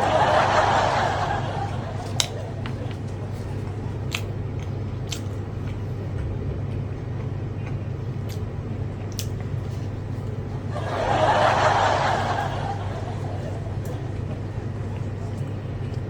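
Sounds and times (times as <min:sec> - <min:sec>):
eating clicks: 0:00.0 - 0:10.5, 0:11.7 - 0:16.0
low hum: 0:00.0 - 0:16.0.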